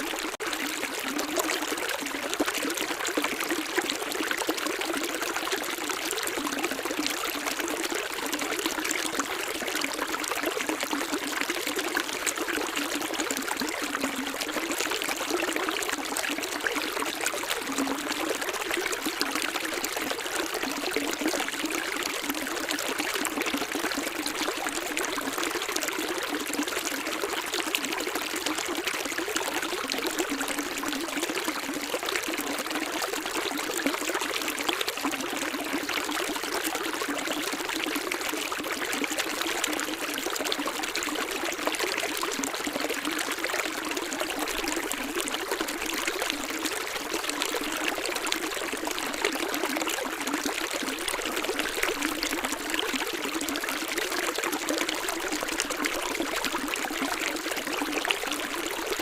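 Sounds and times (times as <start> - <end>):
stream running and splashing: 0.0 - 59.0.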